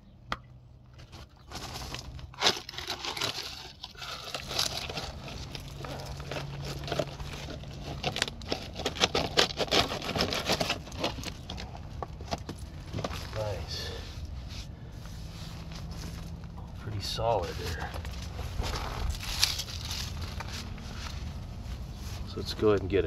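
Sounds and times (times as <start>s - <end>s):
low steady hum: 0.0s - 23.0s
plastic scraping against concrete: 0.9s - 16.4s, 17.3s - 22.7s.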